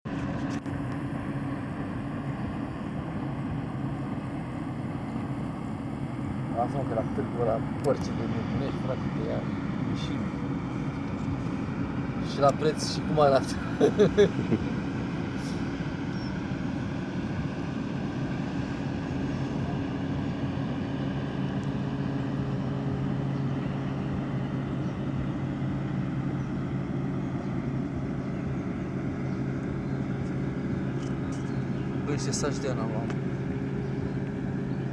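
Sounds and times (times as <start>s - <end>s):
motorboat engine humming: 0.1s - 34.9s.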